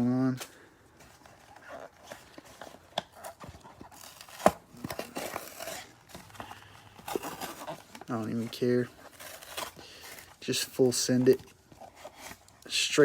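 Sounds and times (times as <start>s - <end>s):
cardboard box tearing: 1.3s - 12.5s.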